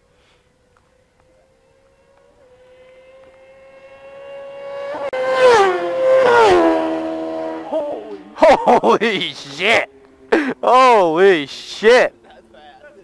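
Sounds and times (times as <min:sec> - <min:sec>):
motorcycle engines racing past: 0:00.3 - 0:13.0.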